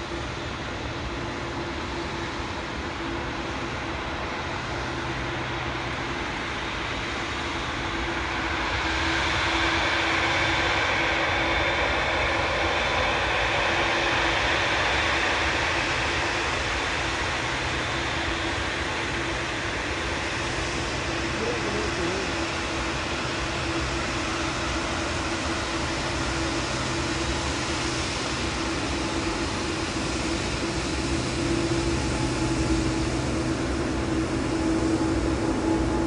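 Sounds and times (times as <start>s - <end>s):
jet airliner engine rushing: 0.0s - 36.0s.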